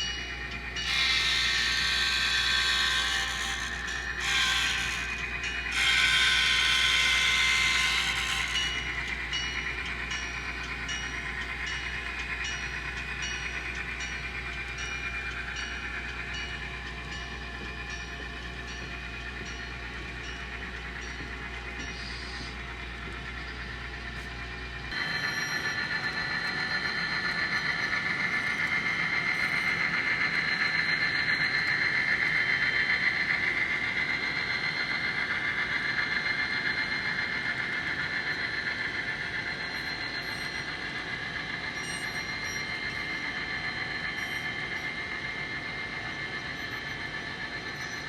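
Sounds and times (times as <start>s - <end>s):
model train motor whine: 0.0s - 48.0s.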